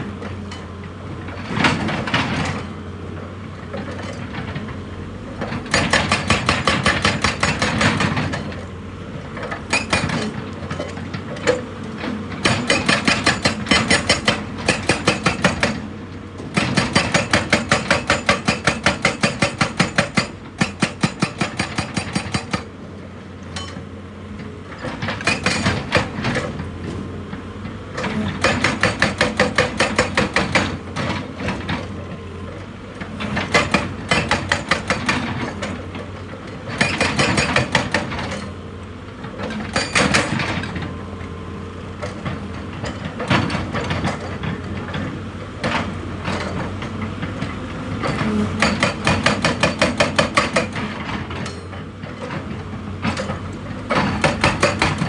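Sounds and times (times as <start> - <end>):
hydraulic rock breaker hammering: 1.3 - 2.8, 5.4 - 8.7, 9.3 - 23.9, 24.5 - 38.6, 39.2 - 41.0, 41.9 - 55.0.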